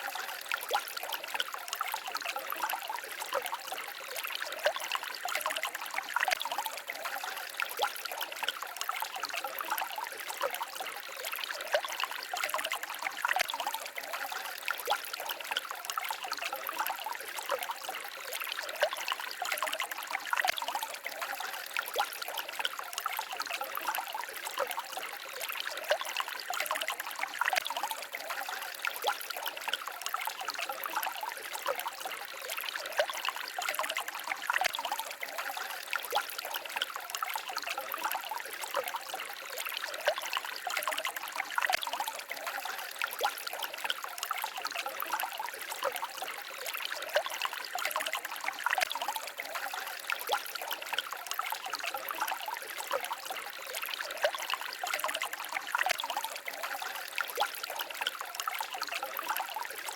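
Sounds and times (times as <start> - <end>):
stream babbling and trickling: 0.0 - 59.9.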